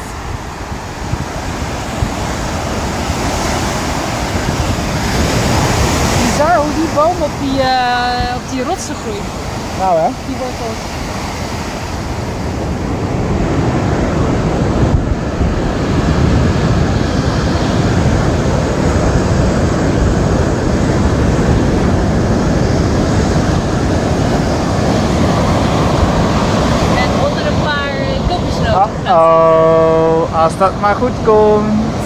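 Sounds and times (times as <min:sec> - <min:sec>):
surf breaking on shore: 0:00.0 - 0:32.0
wind rumbling on microphone: 0:00.0 - 0:32.0.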